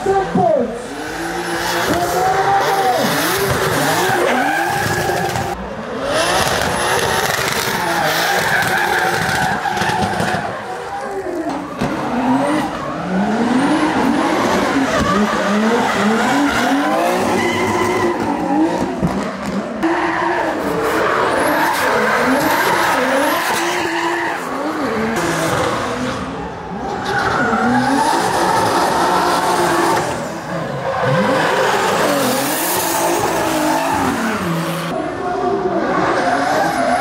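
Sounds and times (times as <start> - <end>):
car engines revving hard: 0.0 - 37.0.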